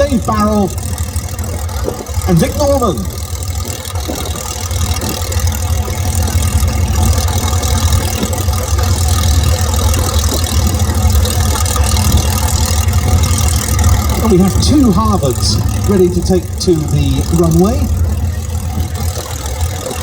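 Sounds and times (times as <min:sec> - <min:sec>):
piston aircraft engines droning: 0:00.0 - 0:20.0.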